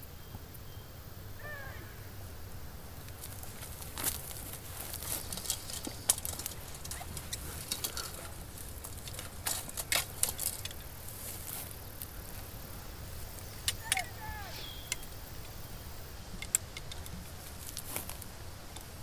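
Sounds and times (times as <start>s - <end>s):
grass and leaves rustling: 0.0s - 19.0s.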